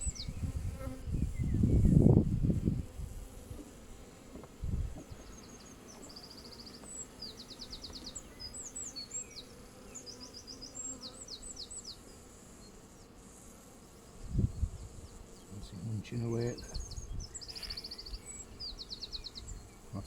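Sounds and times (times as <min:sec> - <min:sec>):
honeybees humming: 0:00.0 - 0:20.0.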